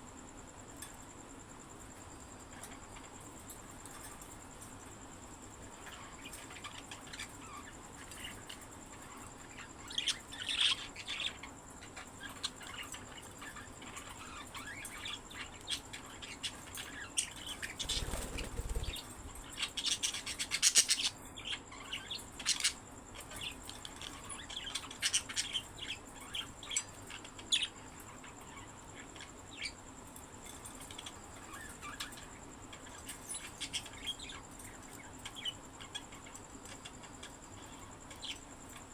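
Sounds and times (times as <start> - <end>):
budgies chirping and twittering: 5.7 - 29.8, 30.4 - 38.9.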